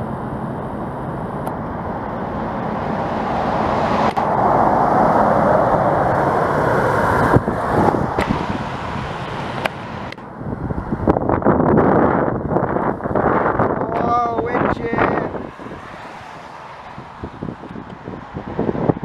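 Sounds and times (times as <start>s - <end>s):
road traffic: 0.0s - 19.0s
strong wind on microphone: 1.2s - 19.0s.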